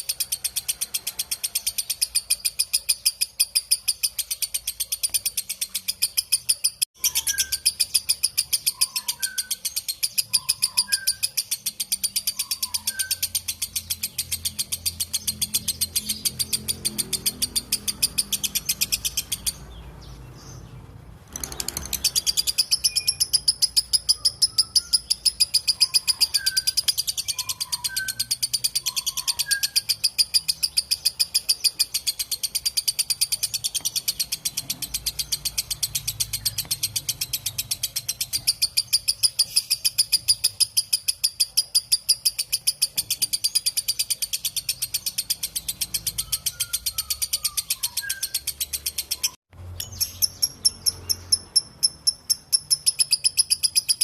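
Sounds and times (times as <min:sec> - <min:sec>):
lovebird chattering: 0:00.0 - 0:54.0.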